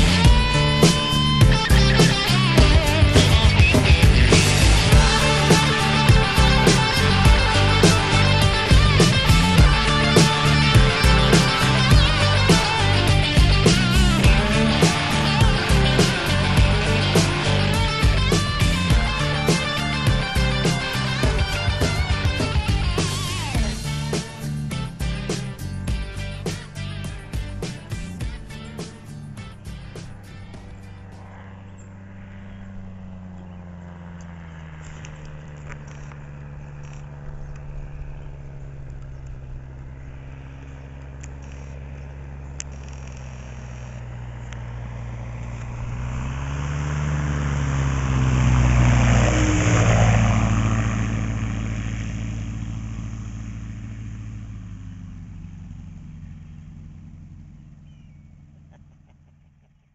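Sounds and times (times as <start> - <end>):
light aircraft engine passing: 0.0 - 59.9.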